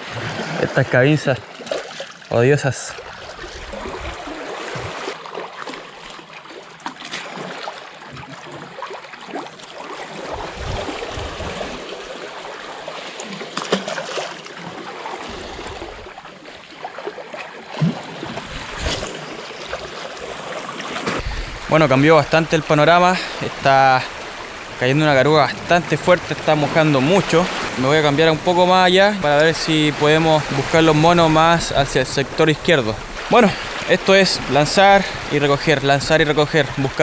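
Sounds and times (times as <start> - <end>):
sea water lapping against rocks: 0.0 - 37.0
water splashes: 0.0 - 37.0.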